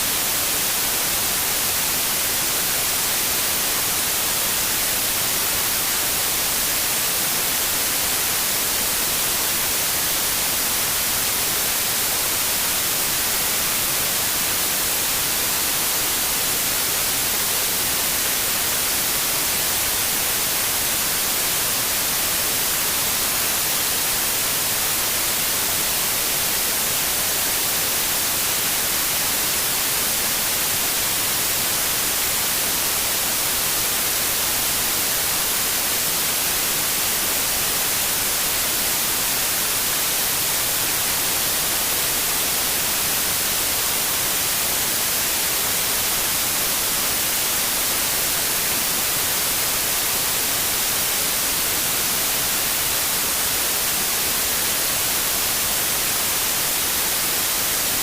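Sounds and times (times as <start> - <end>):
steady white noise hiss: 0.0 - 58.0.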